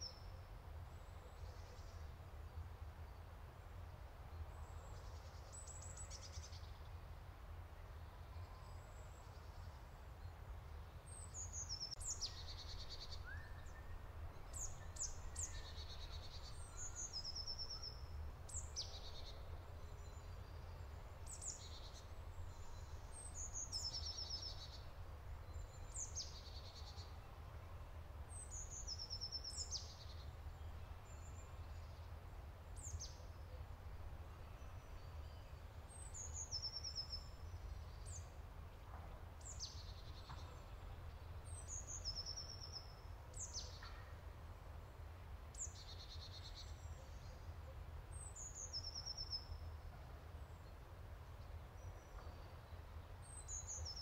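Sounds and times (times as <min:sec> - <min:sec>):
songbirds singing with trills: 0:08.0 - 0:54.0.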